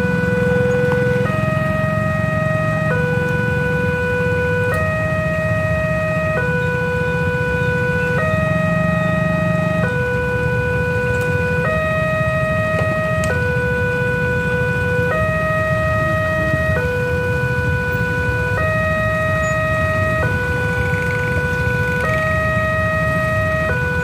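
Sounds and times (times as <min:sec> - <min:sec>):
idling traffic rumble: 0:00.0 - 0:24.0
level-crossing two-tone alarm: 0:00.0 - 0:24.0.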